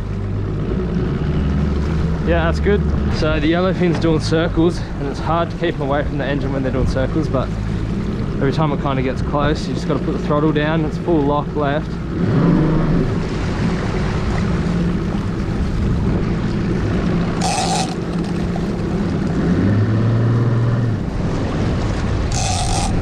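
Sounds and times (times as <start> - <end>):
outboard motor humming: 0.0 - 23.0
water noise: 0.0 - 23.0
wind: 0.0 - 23.0.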